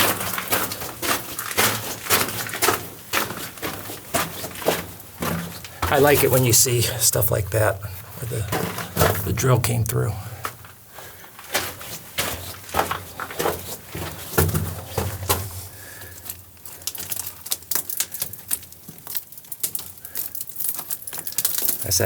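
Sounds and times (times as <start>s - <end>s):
gravel crunching underfoot: 0.0s - 6.8s, 8.1s - 21.9s.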